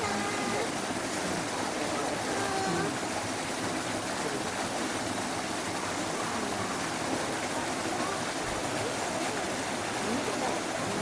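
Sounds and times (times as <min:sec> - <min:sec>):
faint distant voices: 0:00.0 - 0:11.0
running water rushing: 0:00.0 - 0:11.0.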